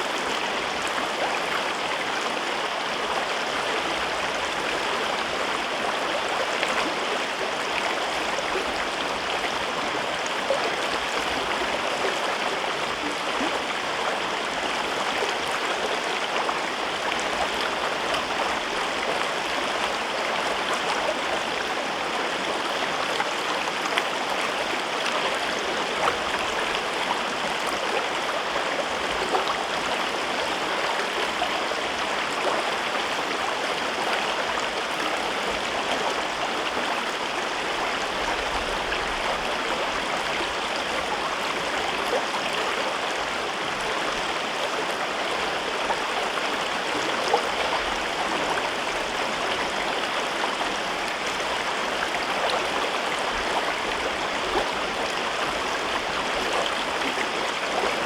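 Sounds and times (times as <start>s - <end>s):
river rushing and babbling: 0.0s - 58.0s.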